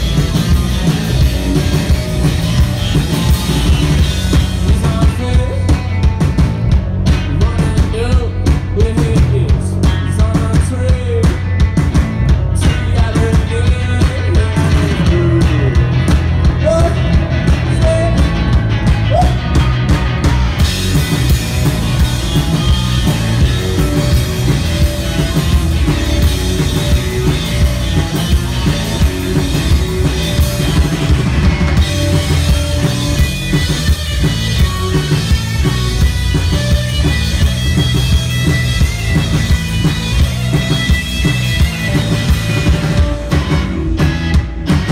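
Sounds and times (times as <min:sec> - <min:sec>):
drum kit beat: 0:00.0 - 0:44.9
electric guitars: 0:00.0 - 0:44.9.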